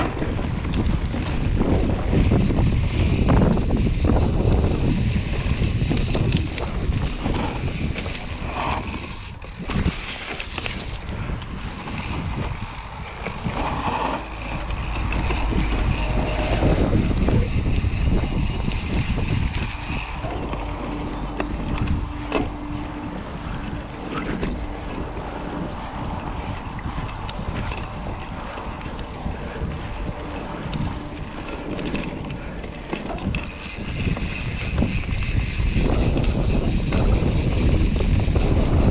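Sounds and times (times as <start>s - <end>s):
bike knocks and rattles: 0.0s - 38.9s
bike tyres rolling on dirt: 0.0s - 38.9s
wind buffeting microphone: 0.0s - 38.9s.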